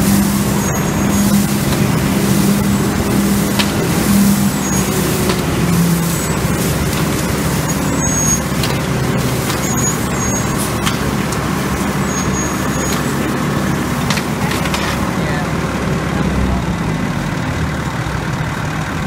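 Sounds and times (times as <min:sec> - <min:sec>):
leaf vacuum air rush: 0:00.0 - 0:15.4
truck engine drone: 0:00.0 - 0:19.0.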